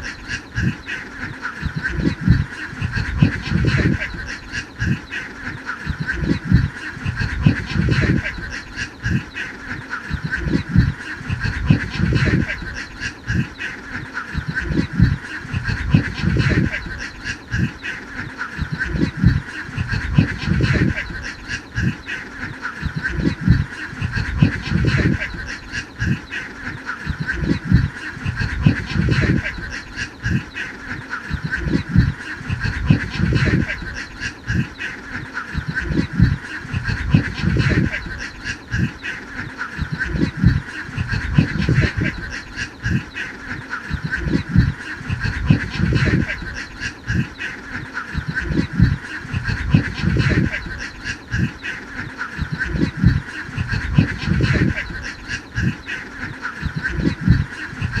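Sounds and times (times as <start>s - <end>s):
ducks quacking: 0.0s - 58.0s.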